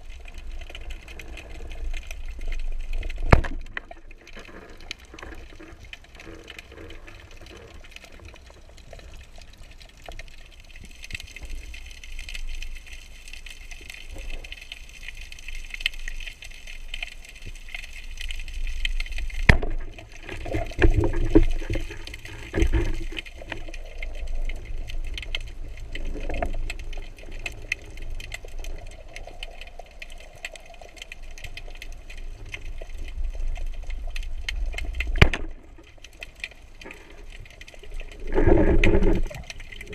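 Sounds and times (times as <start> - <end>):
fine crackling clicks: 0.0 - 39.9
underwater water noise: 0.0 - 39.9.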